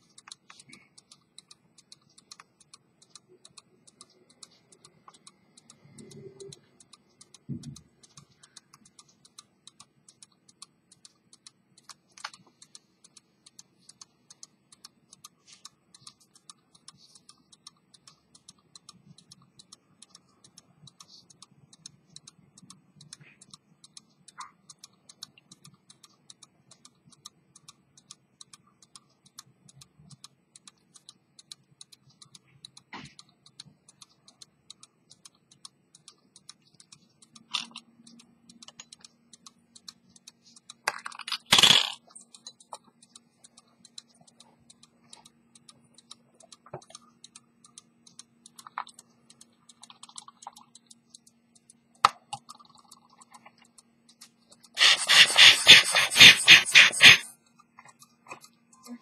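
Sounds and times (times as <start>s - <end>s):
watch ticking: 0.0s - 59.0s.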